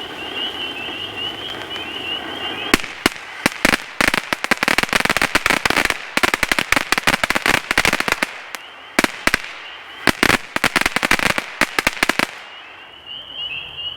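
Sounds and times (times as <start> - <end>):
firework fountain crackling: 0.0 - 13.0.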